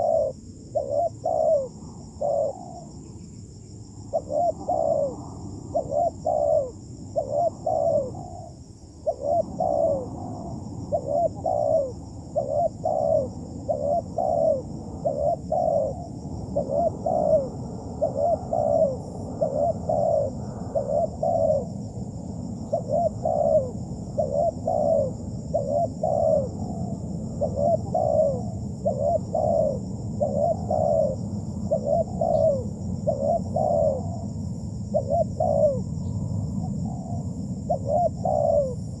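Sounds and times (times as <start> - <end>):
dove cooing: 0.0 - 2.9, 4.0 - 39.0.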